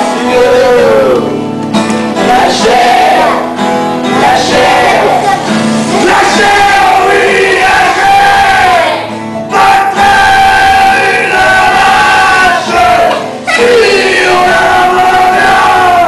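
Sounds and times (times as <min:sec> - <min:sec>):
acoustic guitar: 0:00.0 - 0:16.0
children singing: 0:02.1 - 0:16.0.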